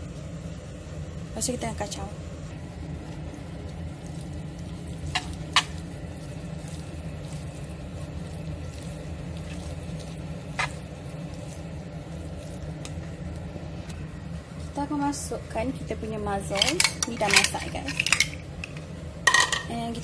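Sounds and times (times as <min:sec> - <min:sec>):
steady low hum: 0:00.0 - 0:20.0
soft wet stirring of pasta: 0:02.4 - 0:18.9.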